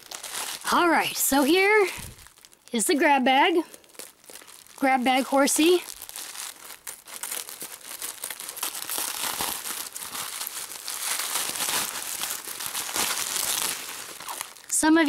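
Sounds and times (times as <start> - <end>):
bubble wrap crackling: 0.0 - 15.0.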